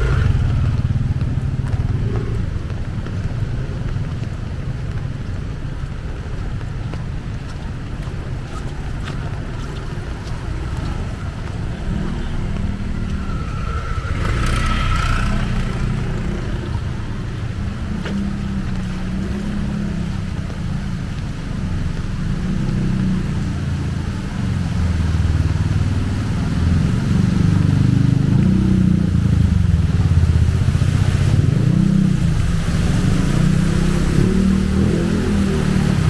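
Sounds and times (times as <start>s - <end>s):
vehicle engines droning: 0.0s - 36.0s.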